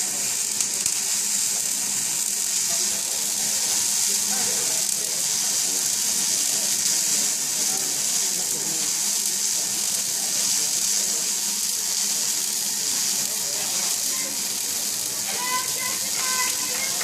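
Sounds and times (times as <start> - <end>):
welding arc sizzling: 0.0 - 17.0.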